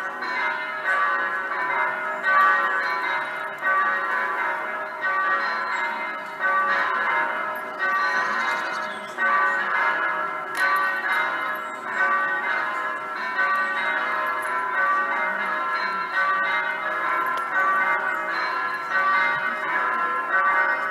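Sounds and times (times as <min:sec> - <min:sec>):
electronic church bells ringing: 0:00.0 - 0:20.9.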